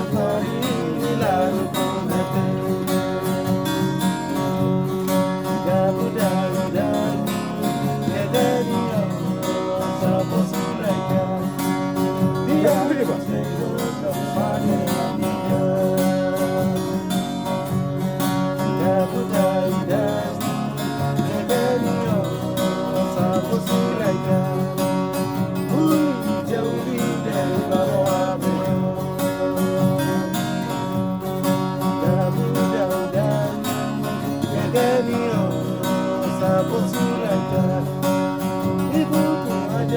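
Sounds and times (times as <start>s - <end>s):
acoustic guitars strumming: 0.0s - 39.9s.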